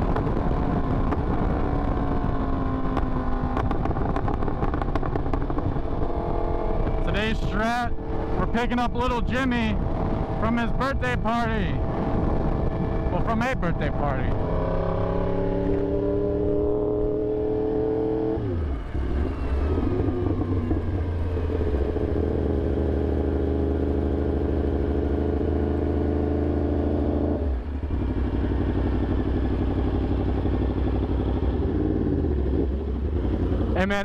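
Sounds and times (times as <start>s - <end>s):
motorcycle engine while riding: 0.0s - 34.0s.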